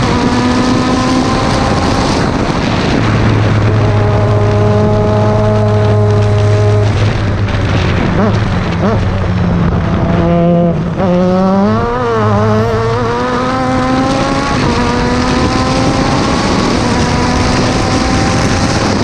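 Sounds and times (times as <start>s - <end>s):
race car engine accelerating: 0.0s - 19.0s
wind and road rush: 0.0s - 19.0s.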